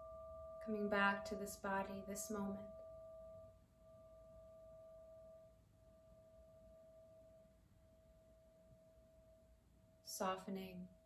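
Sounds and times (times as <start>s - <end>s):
faint steady ringing tone: 0.0s - 11.0s.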